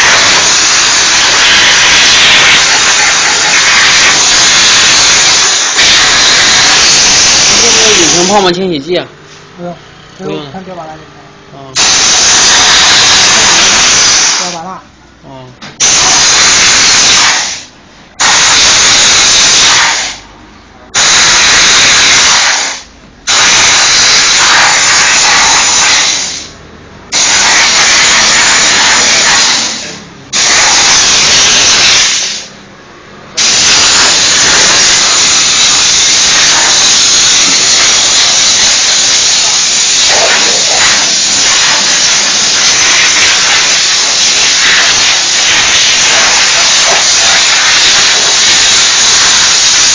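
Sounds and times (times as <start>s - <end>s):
steam cleaner hissing: 0.0s - 8.6s, 11.8s - 14.6s, 15.8s - 20.3s, 20.9s - 26.5s, 27.1s - 32.6s, 33.3s - 49.9s.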